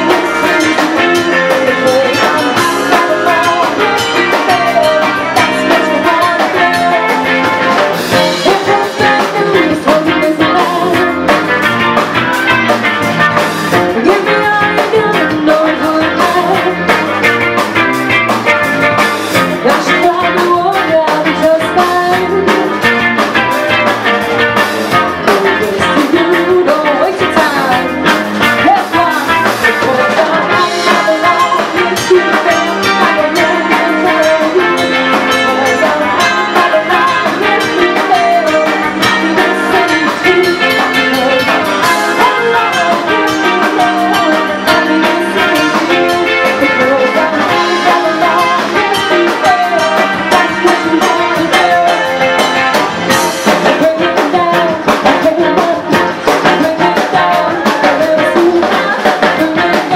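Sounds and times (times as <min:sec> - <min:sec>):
woman singing into a microphone: 0:00.0 - 0:11.4, 0:13.7 - 0:17.0, 0:19.6 - 0:23.1, 0:24.9 - 0:52.7, 0:53.3 - 0:59.9
bass guitar: 0:00.0 - 0:59.9
drum kit: 0:00.0 - 0:59.9.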